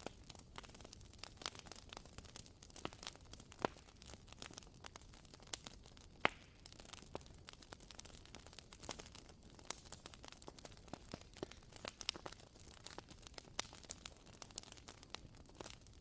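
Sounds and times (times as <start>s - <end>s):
candle crackling: 0.0s - 16.0s.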